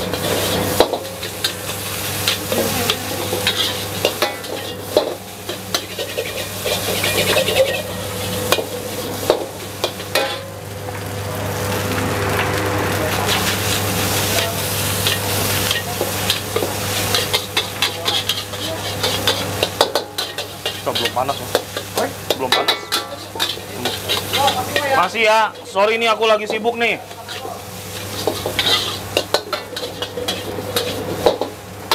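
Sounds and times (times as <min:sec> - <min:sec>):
metal spatula scraping a wok: 0:00.0 - 0:10.5, 0:11.7 - 0:25.8, 0:27.0 - 0:31.9
rice sizzling in a wok: 0:00.0 - 0:31.9.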